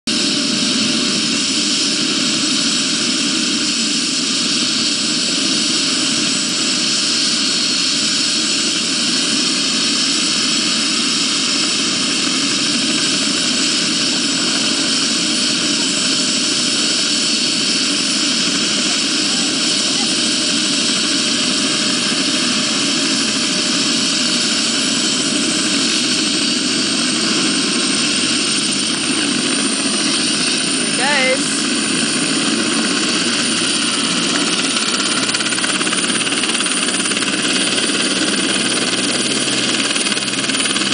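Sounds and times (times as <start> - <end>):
helicopter rotor running: 0.1 - 40.9
high turbine whine: 0.1 - 40.9.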